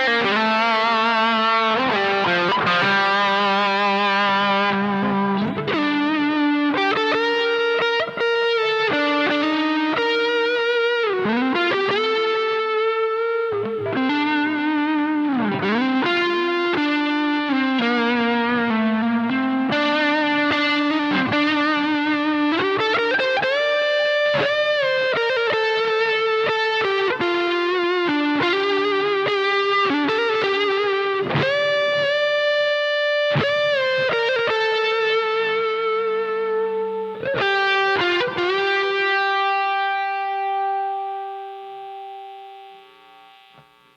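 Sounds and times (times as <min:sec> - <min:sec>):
overdriven electric guitar lead: 0:00.0 - 0:43.9.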